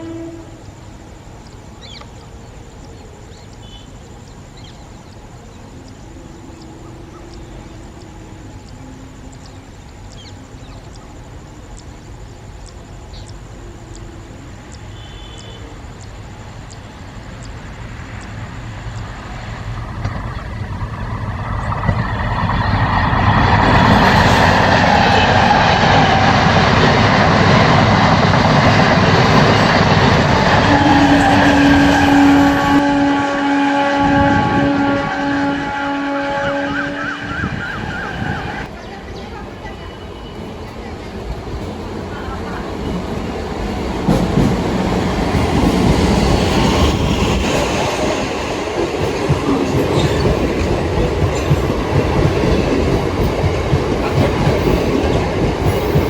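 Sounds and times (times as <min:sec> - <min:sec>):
train wheels rolling on track: 0:00.0 - 0:56.0.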